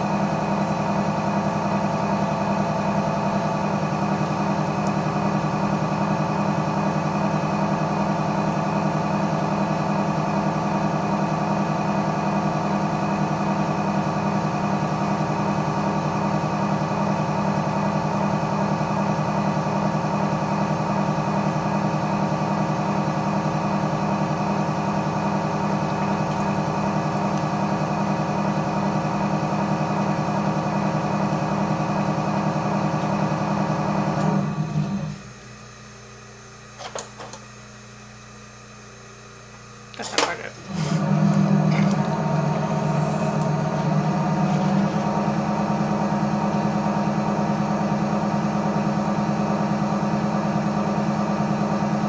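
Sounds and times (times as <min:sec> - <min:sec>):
potter's wheel motor hum: 0:00.0 - 0:52.0.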